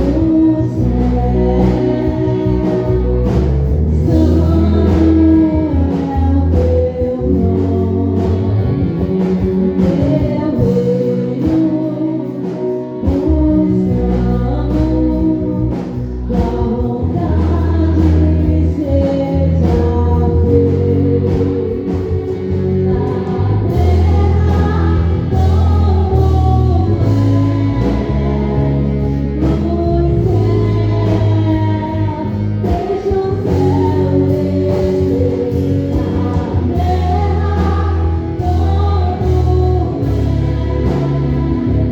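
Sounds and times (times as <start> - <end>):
band with bass guitar and drums: 0.0 - 41.9
singers: 0.0 - 41.9.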